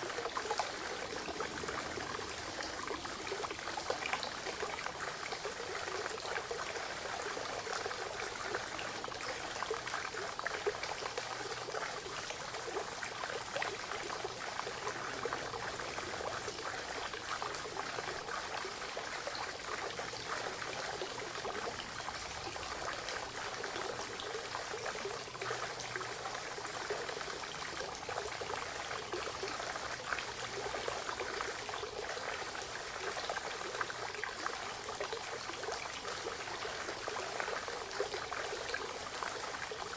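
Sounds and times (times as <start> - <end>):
spring water trickling and splashing: 0.0 - 39.9.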